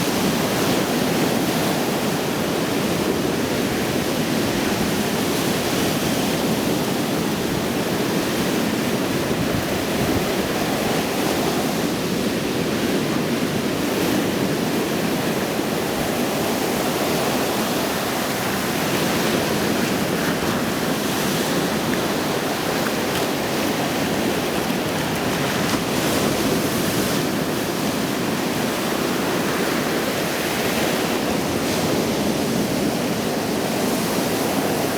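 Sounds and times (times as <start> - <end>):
rough waves breaking: 0.0 - 34.9.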